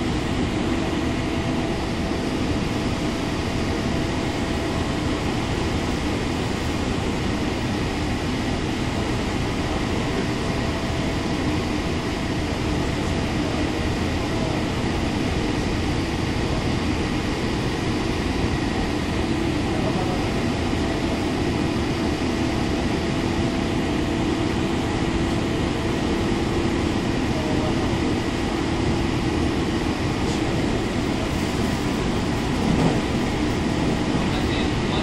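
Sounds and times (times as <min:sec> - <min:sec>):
train wheels rushing on rail: 0:00.0 - 0:35.0.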